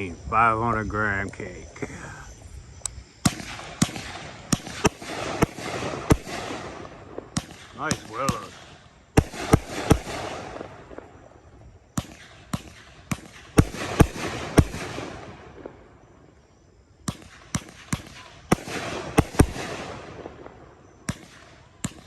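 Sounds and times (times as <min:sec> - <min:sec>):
firework hiss: 0:01.4 - 0:22.0
firework bangs: 0:03.2 - 0:16.4, 0:17.0 - 0:22.0.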